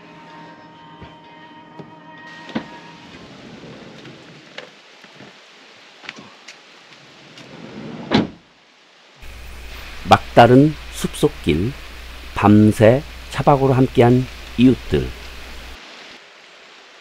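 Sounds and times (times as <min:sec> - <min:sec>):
steady rain falling: 0:02.3 - 0:17.0.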